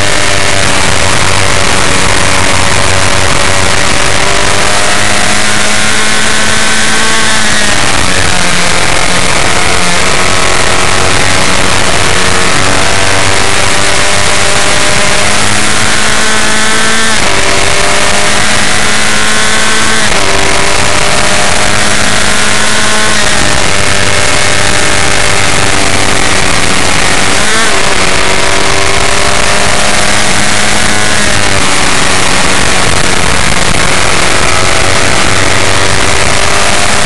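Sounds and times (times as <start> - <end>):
race car engine accelerating: 0.0 - 37.0
wind and road rush: 0.0 - 37.0.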